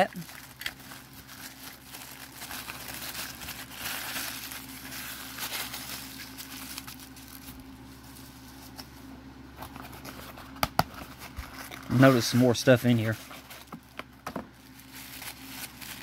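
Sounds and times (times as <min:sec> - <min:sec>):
tissue paper crinkling: 0:00.1 - 0:09.0, 0:11.0 - 0:13.9, 0:14.6 - 0:16.0.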